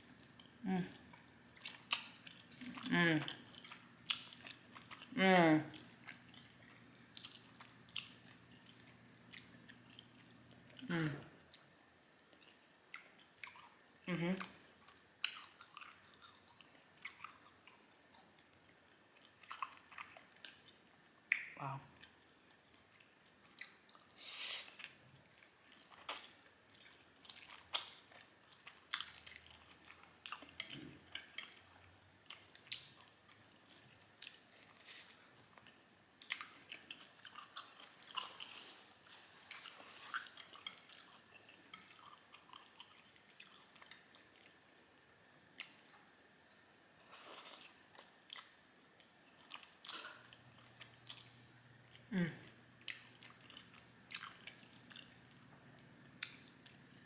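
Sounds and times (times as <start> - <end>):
wet chewing and mouth smacking: 0.2 - 5.1, 5.8 - 10.8, 11.4 - 13.8, 14.4 - 34.7, 35.6 - 45.0, 47.4 - 52.1, 52.8 - 56.8.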